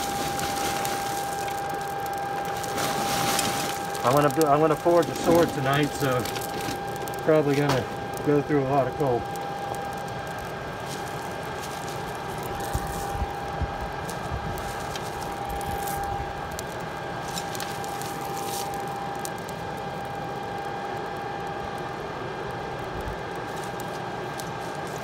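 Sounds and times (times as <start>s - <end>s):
electric air blower humming: 0.0s - 25.0s.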